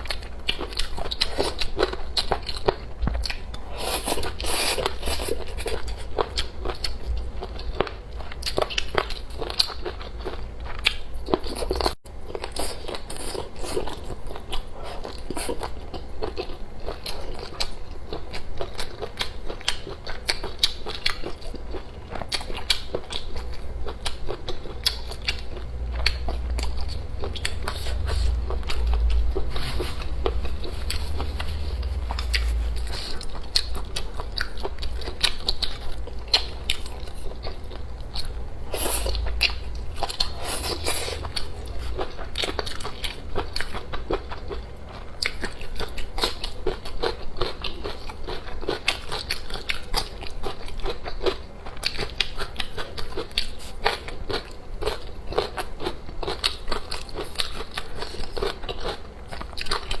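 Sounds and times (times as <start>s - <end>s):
person chewing food: 0.0s - 60.0s.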